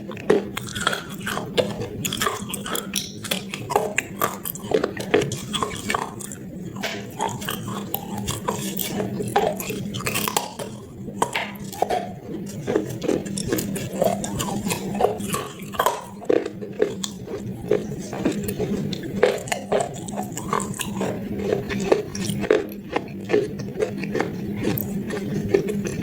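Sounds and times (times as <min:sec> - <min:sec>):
chewing and crunching clay: 0:00.0 - 0:26.0
steady low hum: 0:00.0 - 0:26.0.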